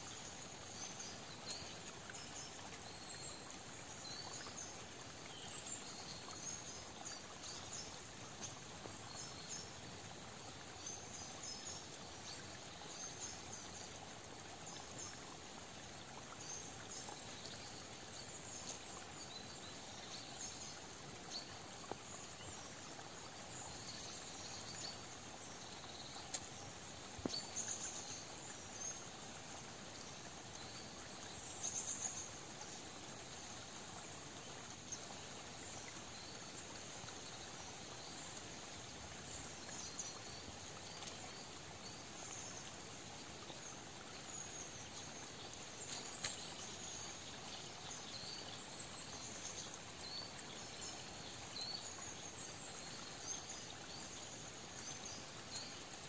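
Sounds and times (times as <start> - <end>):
soft woodland hiss: 0.0 - 56.0.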